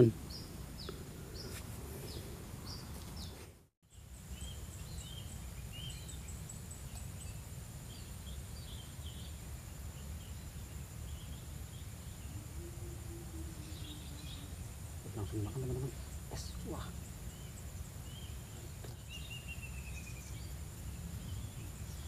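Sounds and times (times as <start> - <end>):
birds chirping: 0.0 - 9.4, 10.0 - 22.0
insect drone: 3.9 - 22.0.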